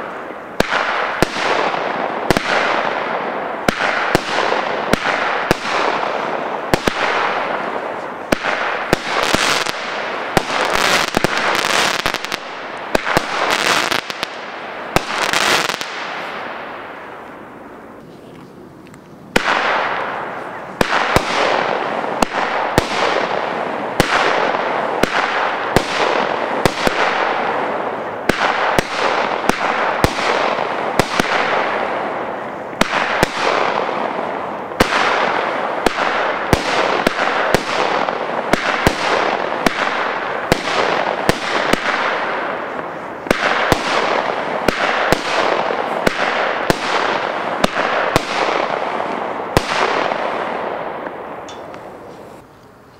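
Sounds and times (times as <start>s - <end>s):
fireworks bangs: 0.0s - 52.5s.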